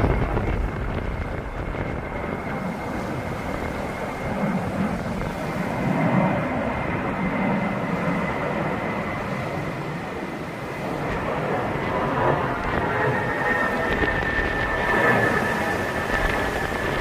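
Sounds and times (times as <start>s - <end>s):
jet engines roaring and whining: 0.0s - 17.0s.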